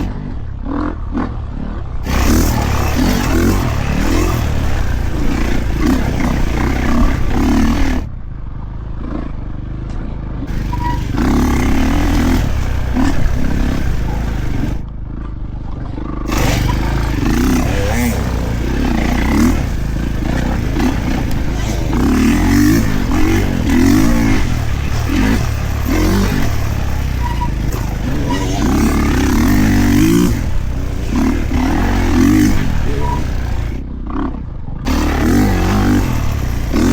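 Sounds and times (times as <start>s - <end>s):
dirt bike engine revving: 2.0s - 8.1s, 10.5s - 14.8s, 16.2s - 33.9s, 34.9s - 36.9s.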